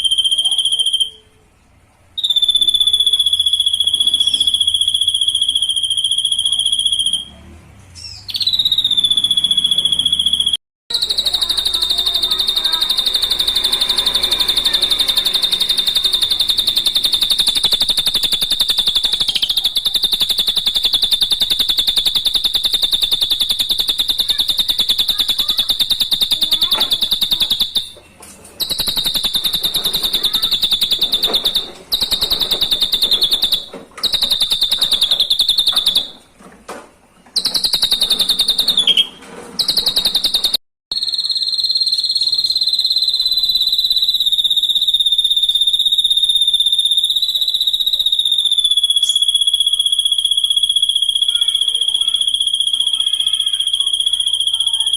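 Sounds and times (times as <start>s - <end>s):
bird singing rapid high trill: 0.0s - 1.4s, 2.2s - 7.4s, 8.0s - 28.0s, 28.6s - 36.2s, 37.4s - 54.9s.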